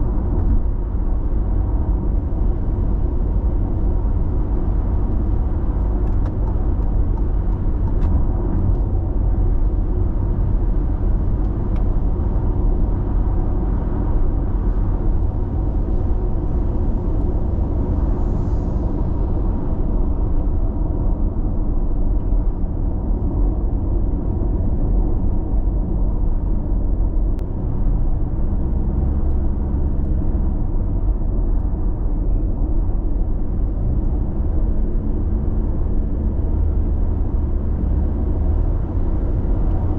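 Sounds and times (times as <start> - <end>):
car road noise from inside: 0.0 - 39.9.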